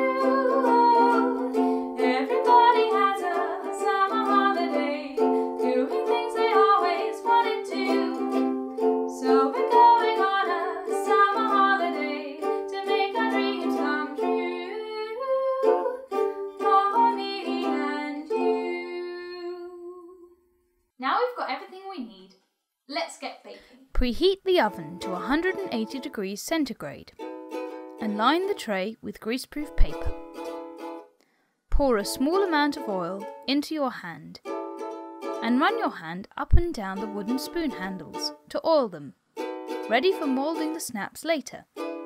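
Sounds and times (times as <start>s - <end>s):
ukulele strumming: 0.0s - 19.9s, 24.1s - 26.2s, 27.1s - 28.9s, 29.6s - 31.1s, 31.8s - 38.4s, 39.4s - 42.0s.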